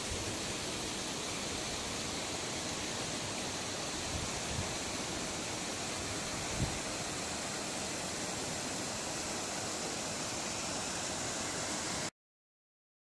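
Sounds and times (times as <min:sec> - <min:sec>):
paddle wheels churning water: 0:00.0 - 0:12.1.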